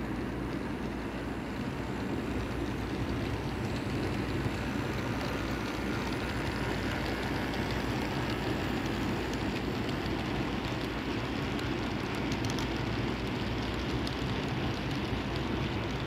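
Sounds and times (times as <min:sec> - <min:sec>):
model train rumbling: 0:00.0 - 0:16.0.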